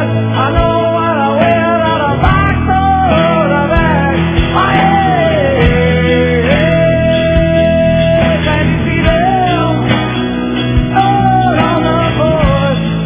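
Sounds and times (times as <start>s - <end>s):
guitar: 0.0s - 13.0s
person singing: 0.0s - 13.0s
steady drum beat: 0.0s - 13.0s.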